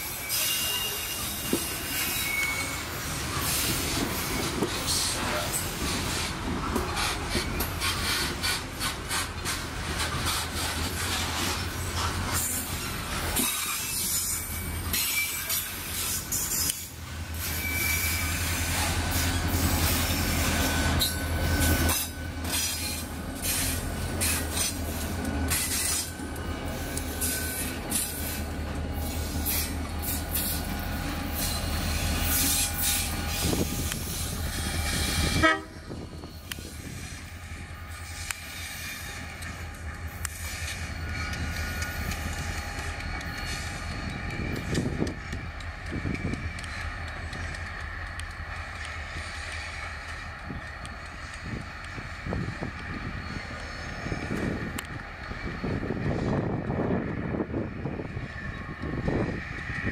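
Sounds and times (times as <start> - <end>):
locomotive engine rumble: 0.6 - 59.9.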